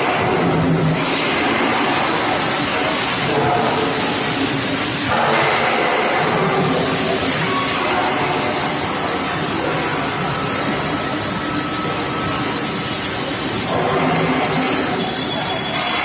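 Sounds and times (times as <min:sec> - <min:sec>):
industrial machinery din: 0:00.0 - 0:16.0.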